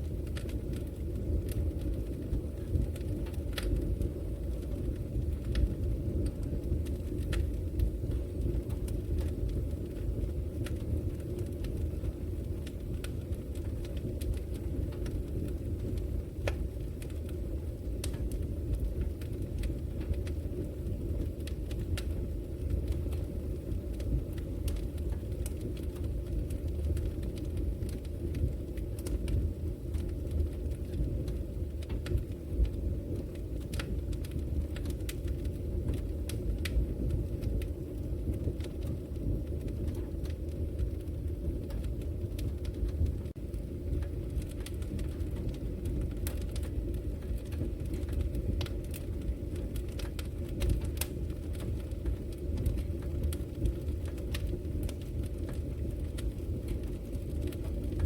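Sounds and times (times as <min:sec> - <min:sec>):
low rumble of flames: 0:00.0 - 0:58.0
wood crackling and popping: 0:00.0 - 0:58.0.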